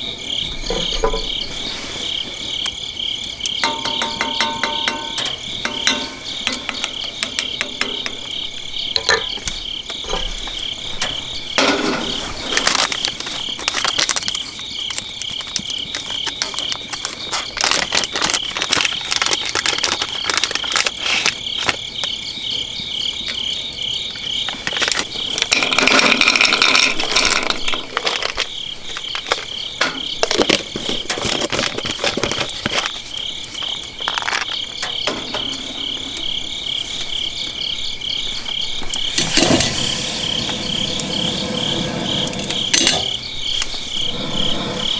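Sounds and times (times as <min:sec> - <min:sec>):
crickets chirping: 0:00.0 - 0:44.9
bonfire popping and crackling: 0:02.3 - 0:22.2, 0:24.4 - 0:35.1, 0:38.8 - 0:44.9.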